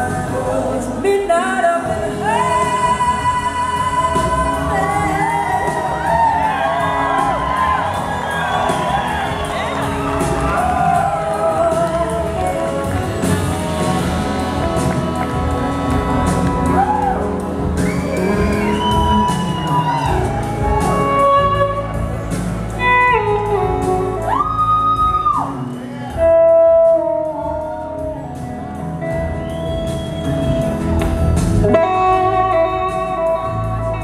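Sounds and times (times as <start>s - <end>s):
blues-rock band playing: 0.0s - 34.0s
electric slide guitar lead: 0.0s - 34.0s.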